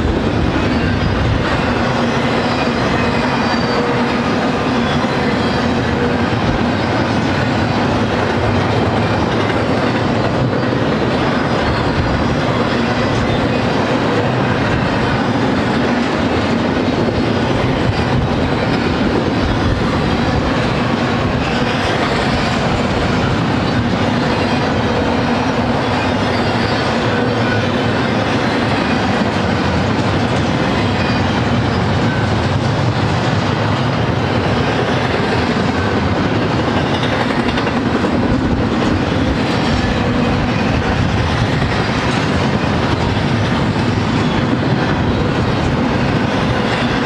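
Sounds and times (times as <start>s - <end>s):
freight train wheels rolling on rails: 0.0s - 47.0s.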